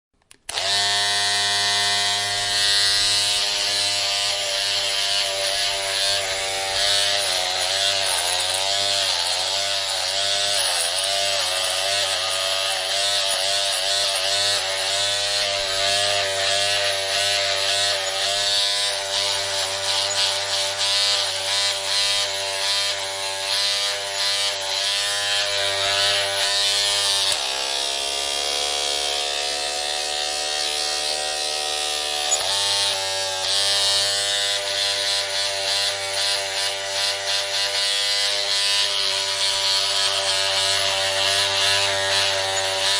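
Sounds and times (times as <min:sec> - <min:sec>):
electric shaver buzzing: 0:00.3 - 0:42.9.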